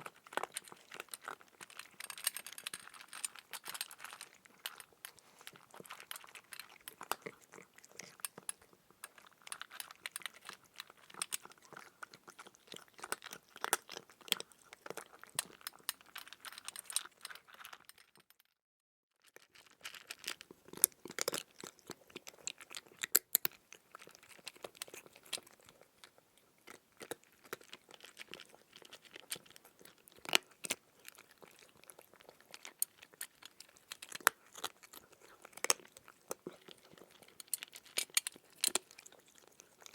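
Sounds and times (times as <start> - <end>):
crunchy chewing: 0.0 - 18.0, 19.4 - 39.9.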